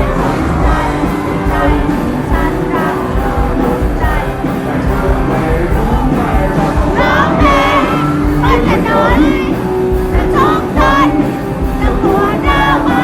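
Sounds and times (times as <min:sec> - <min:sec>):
drums: 0:00.0 - 0:13.0
guitars: 0:00.0 - 0:13.0
person singing: 0:00.0 - 0:13.0.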